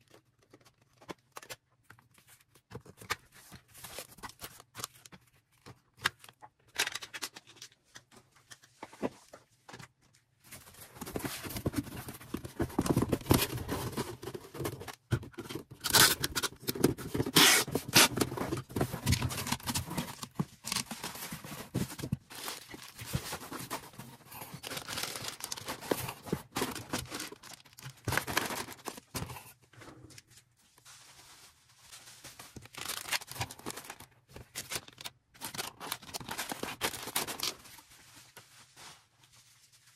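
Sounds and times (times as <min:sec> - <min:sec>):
packaging rustling and crinkling: 0:00.0 - 0:39.9.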